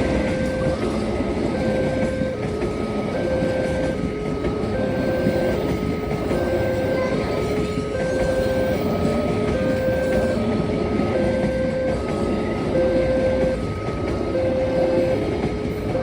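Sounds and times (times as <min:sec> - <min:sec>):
train rumbling and clattering: 0:00.0 - 0:16.0
two-tone crossing alarm: 0:00.0 - 0:16.0.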